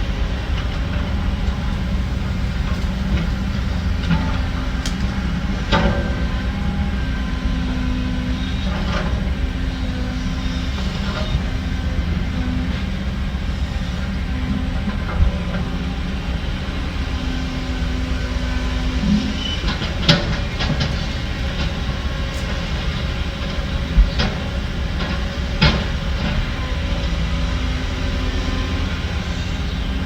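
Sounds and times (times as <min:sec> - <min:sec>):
diesel machinery rumbling: 0:00.0 - 0:30.0.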